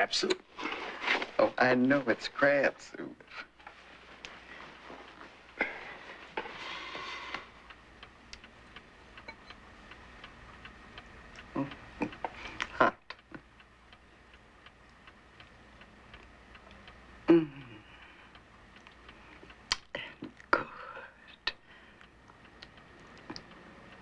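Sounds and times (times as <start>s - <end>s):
clock ticking: 1.1s - 24.0s.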